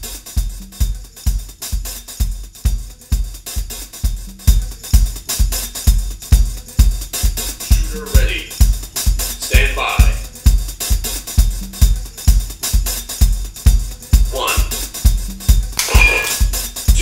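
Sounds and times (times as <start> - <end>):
drum kit beat: 0.0 - 17.0.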